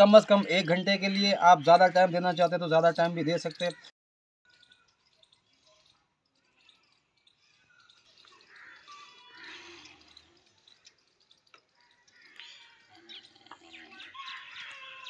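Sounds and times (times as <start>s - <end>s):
faint birds chirping: 0.0s - 3.9s, 4.5s - 15.0s.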